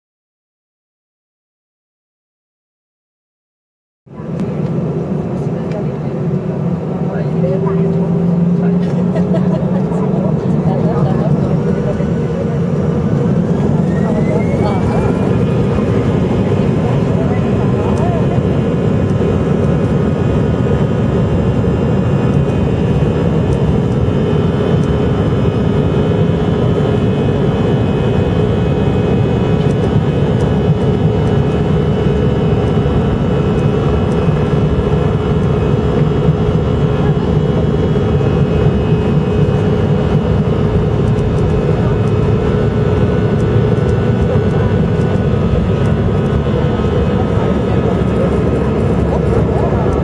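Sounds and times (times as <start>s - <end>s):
jet engines rumbling and whining: 4.1s - 50.0s.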